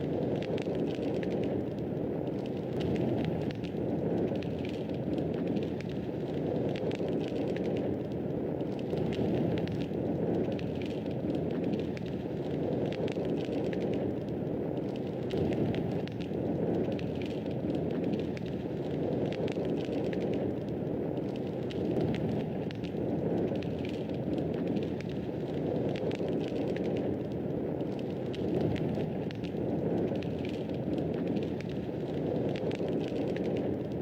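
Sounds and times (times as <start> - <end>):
fire crackling and popping: 0.0 - 34.0
fire rushing: 0.0 - 34.0.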